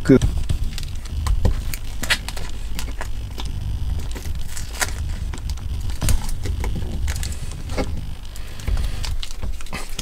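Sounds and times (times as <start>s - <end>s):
steady low hum: 0.0s - 10.0s
tape crackling off a roll: 0.0s - 10.0s.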